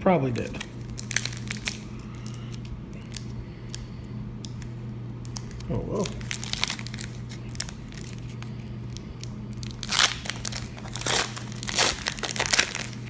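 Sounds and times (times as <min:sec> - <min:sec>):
foil wrapper crinkling and tearing: 0:00.2 - 0:03.3, 0:05.3 - 0:13.0.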